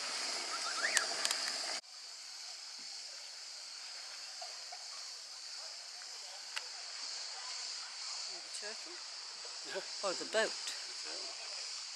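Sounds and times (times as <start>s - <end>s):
moving water hiss: 0.0s - 11.9s.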